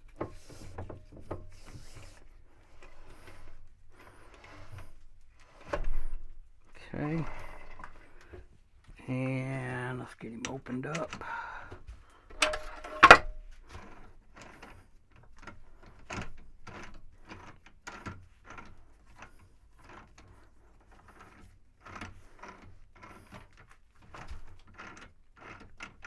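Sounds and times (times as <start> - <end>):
chuck key clicks and scrapes: 0.0 - 8.5, 12.2 - 26.0.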